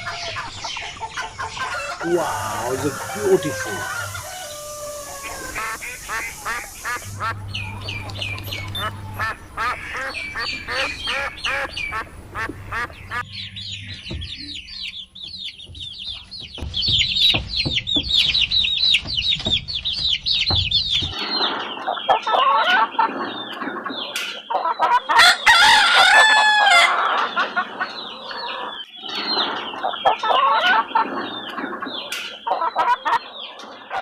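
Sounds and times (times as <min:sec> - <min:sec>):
chickens calling: 0:00.0 - 0:34.0
chickens clucking: 0:00.0 - 0:34.0
chicks peeping: 0:00.0 - 0:34.0.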